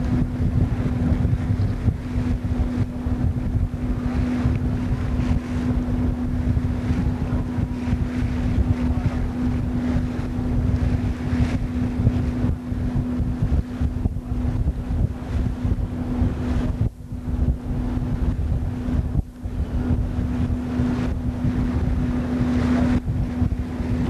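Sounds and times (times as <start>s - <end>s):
ferry engine drone: 0.0s - 24.0s
wind buffeting microphone: 0.0s - 24.0s.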